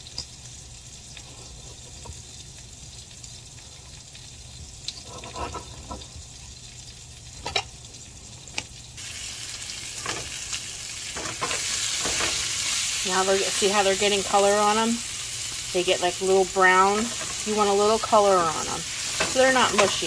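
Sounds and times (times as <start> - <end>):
chicken sizzling in frying pan: 0.0 - 20.0.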